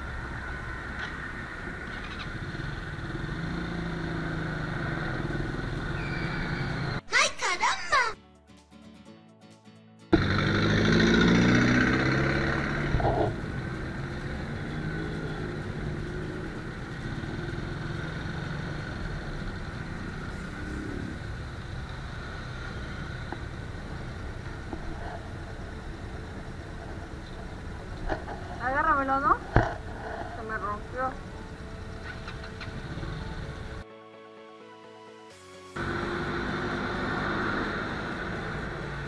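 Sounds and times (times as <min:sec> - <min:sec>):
motorcycle engine starting and revving: 0:00.0 - 0:07.0, 0:10.2 - 0:33.8, 0:35.8 - 0:39.0.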